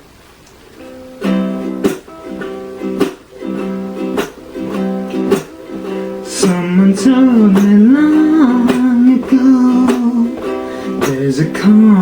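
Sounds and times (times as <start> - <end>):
ukulele strummed chords: 0.6 - 12.0.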